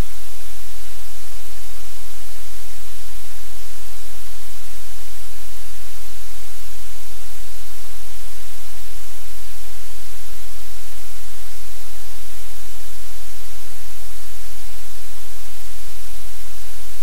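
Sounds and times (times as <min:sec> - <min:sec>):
loud static hiss: 0:00.0 - 0:17.0.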